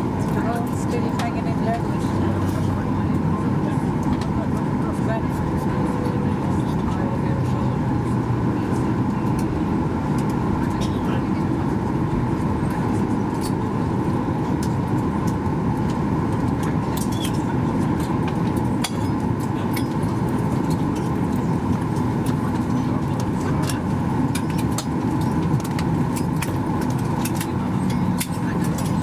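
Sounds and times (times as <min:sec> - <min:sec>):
aircraft cabin rumble and hum: 0:00.0 - 0:29.0.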